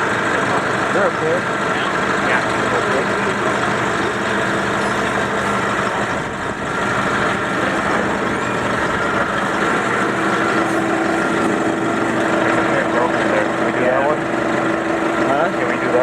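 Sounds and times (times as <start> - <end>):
forklift engine idling: 0.0 - 16.0
steady hum: 0.0 - 16.0.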